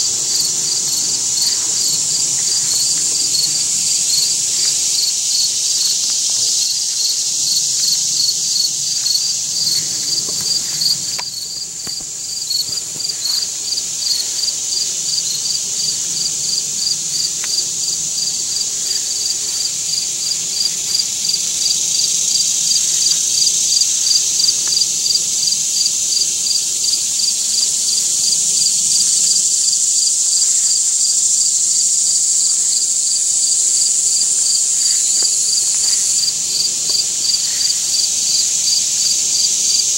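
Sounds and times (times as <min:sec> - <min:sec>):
high-pitched insect drone: 0:00.0 - 0:39.9
rhythmic insect chirp: 0:00.0 - 0:39.9.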